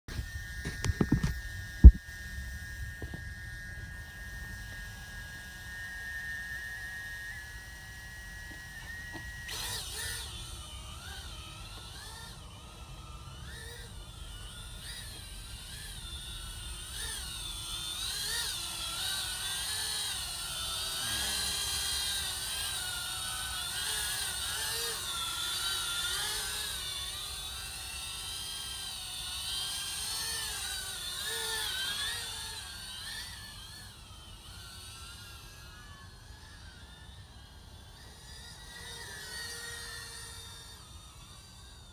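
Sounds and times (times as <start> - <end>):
drone propellers whining: 0.1 - 41.9.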